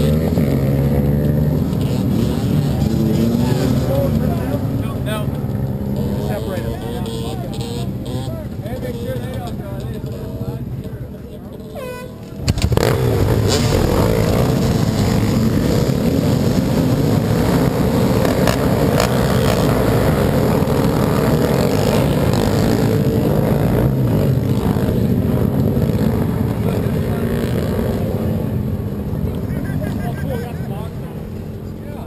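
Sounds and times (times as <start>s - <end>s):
dirt bike engine running hard: 0.0s - 32.0s.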